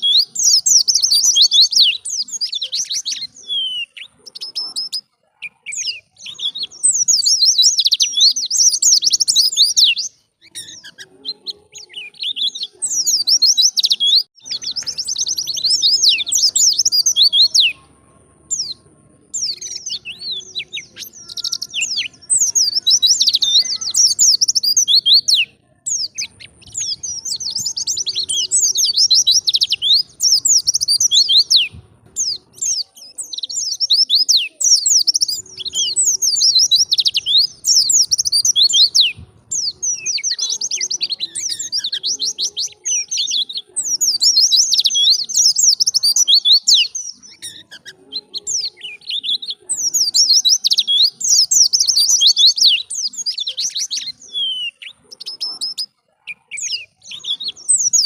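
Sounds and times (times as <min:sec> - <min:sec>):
bird twittering song: 0:00.0 - 0:58.0.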